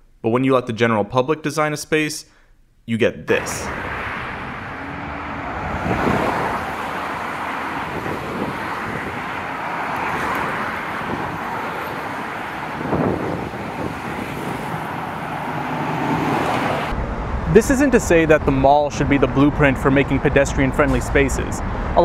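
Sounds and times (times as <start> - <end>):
cars driving past: 3.4 - 22.0.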